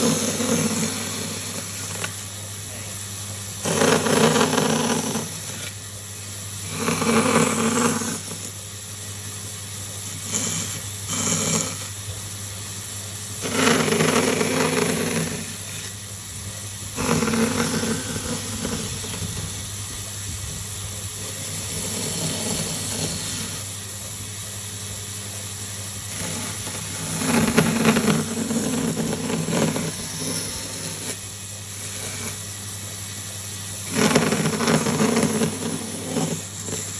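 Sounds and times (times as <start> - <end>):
electric power tool motor: 0.0 - 8.7, 9.7 - 12.4, 13.0 - 36.9
steady background hum: 0.0 - 36.9.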